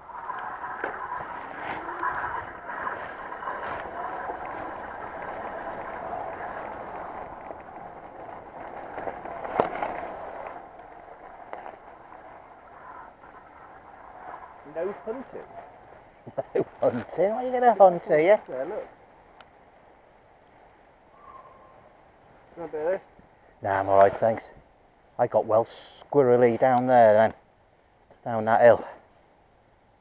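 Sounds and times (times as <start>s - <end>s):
bike tyres rolling on dirt trail: 0.0s - 30.0s.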